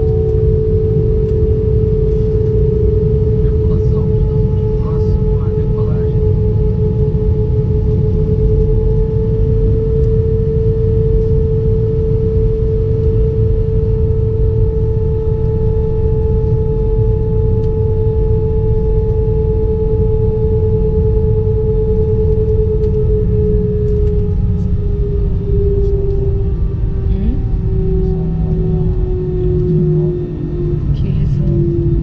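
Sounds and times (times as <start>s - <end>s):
airplane cabin engine hum: 0.0s - 32.0s.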